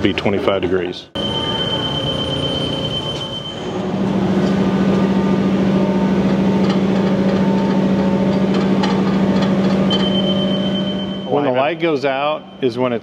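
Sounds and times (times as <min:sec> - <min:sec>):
high steady tone: 0:01.2 - 0:13.0
steady low buzz: 0:01.2 - 0:13.0.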